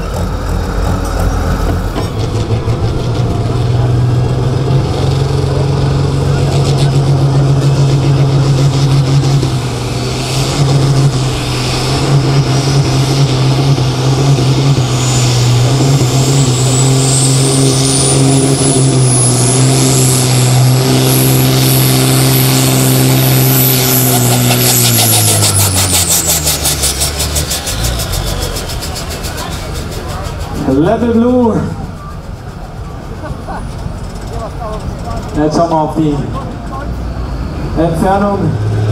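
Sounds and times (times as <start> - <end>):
diesel engine at high revs: 0.0 - 38.9
turbo whine: 0.0 - 38.9.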